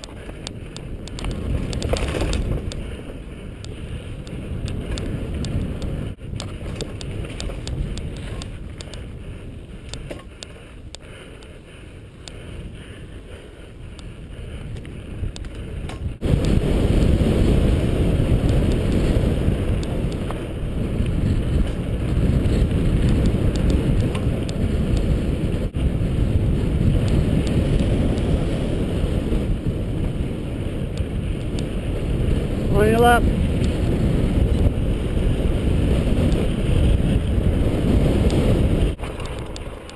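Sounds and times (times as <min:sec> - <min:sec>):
bike tyre rumble on dirt: 0:00.0 - 0:39.9
wind buffeting microphone: 0:00.0 - 0:39.9.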